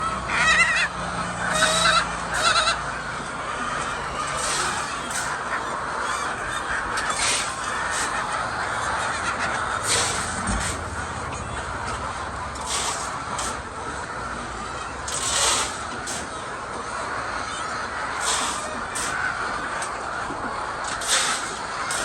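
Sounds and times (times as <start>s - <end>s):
hens chattering: 0.0s - 22.0s
hens squawking: 0.0s - 22.0s.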